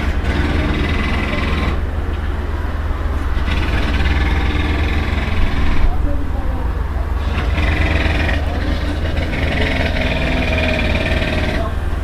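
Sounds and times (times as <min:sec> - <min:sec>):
jackhammer hammering: 0:00.0 - 0:12.0.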